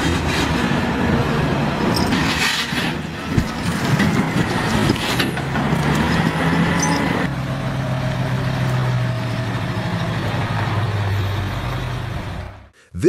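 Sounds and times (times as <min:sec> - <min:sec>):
diesel engine under load: 0:00.0 - 0:12.8.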